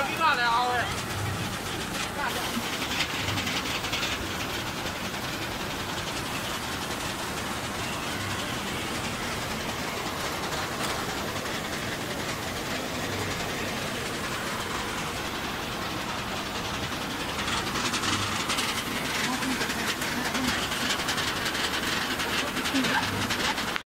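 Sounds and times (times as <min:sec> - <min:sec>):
machines running in a room: 0:00.0 - 0:23.8.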